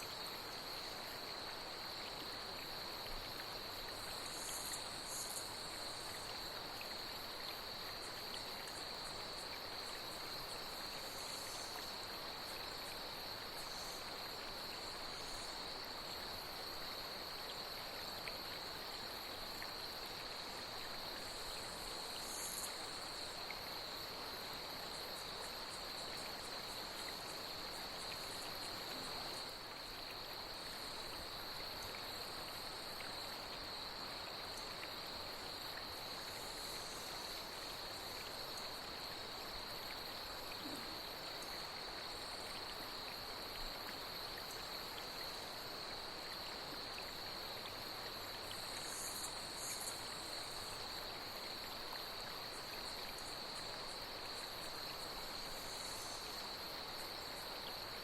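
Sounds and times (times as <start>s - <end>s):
night insects chorus: 0.0s - 58.0s
stream flowing: 0.0s - 58.0s.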